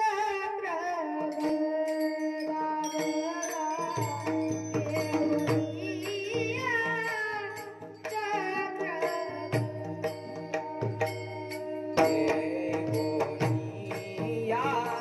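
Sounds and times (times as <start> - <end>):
light percussion: 0.0 - 15.0
person singing: 0.0 - 15.0.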